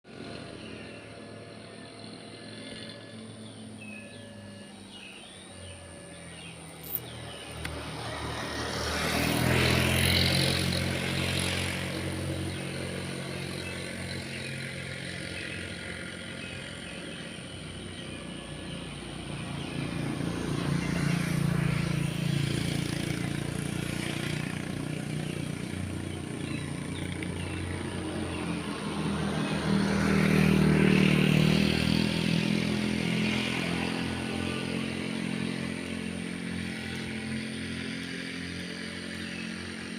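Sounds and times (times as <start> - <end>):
locomotive diesel engine drone: 0.1 - 39.9.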